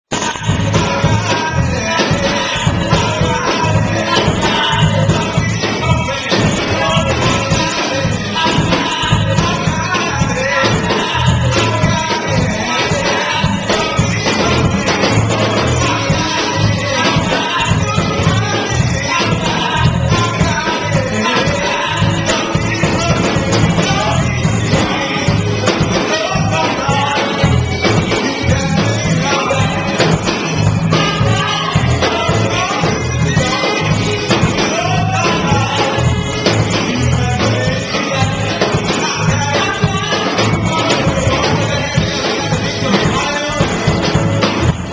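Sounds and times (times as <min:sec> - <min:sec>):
band with steady beat: 0:00.1 - 0:44.9
voices singing together: 0:00.2 - 0:44.9.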